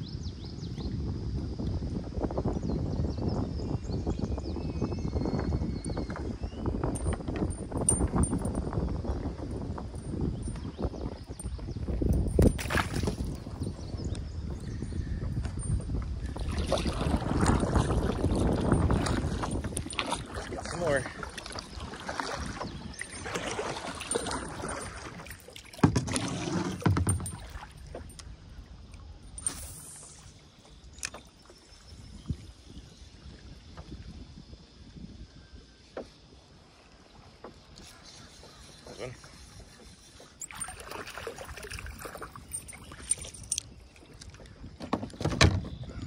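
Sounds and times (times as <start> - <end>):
waves lapping against kayak hull: 6.0 - 46.0.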